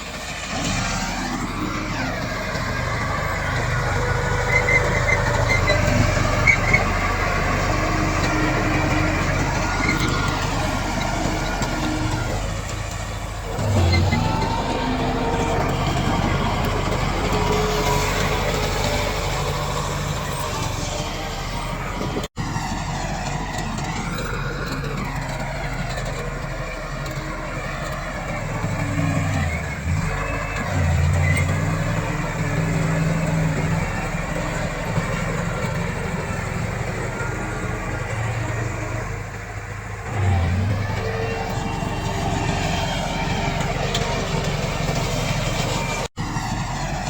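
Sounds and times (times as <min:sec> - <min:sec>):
bulldozer diesel engine running: 0:00.0 - 0:47.0.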